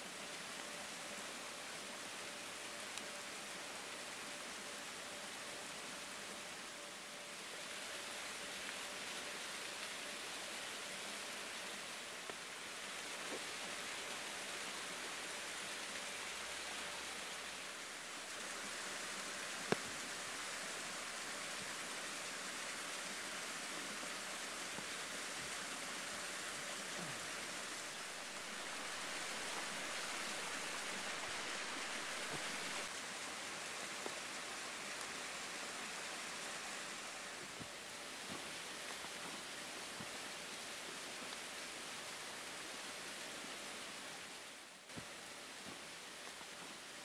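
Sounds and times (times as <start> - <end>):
waterfall rushing: 6.3 - 47.0.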